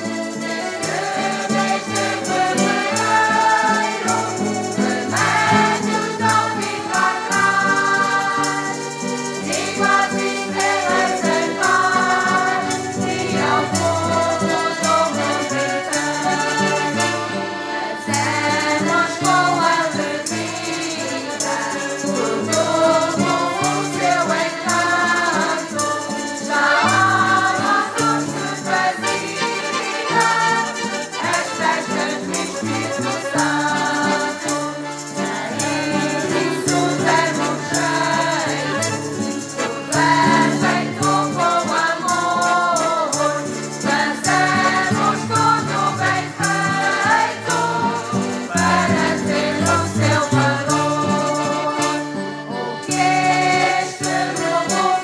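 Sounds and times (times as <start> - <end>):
accordions playing: 0.0 - 55.0
mixed choir singing: 0.0 - 55.0
strummed acoustic guitar: 0.0 - 55.0.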